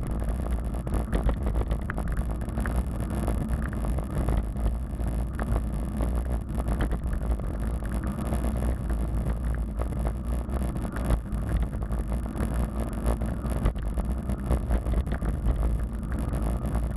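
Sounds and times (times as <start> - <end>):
wind rumbling on microphone: 0.0 - 16.9.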